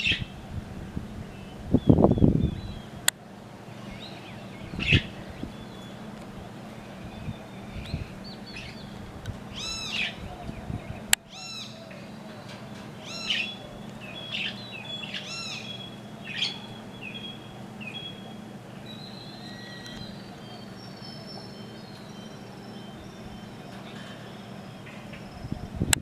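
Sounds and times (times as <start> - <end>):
small birds chirping: 0.0 - 26.0
thin high whistled bird notes: 3.7 - 25.9.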